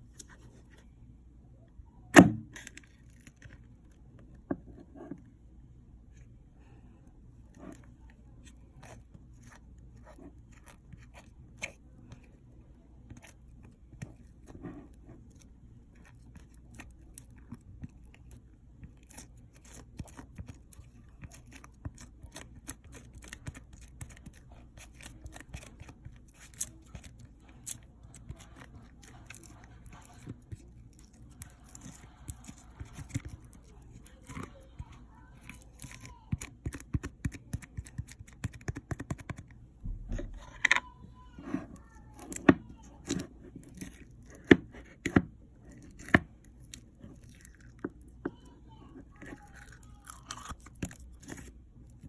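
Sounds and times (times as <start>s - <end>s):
slime squishing by hand: 2.1s - 52.0s.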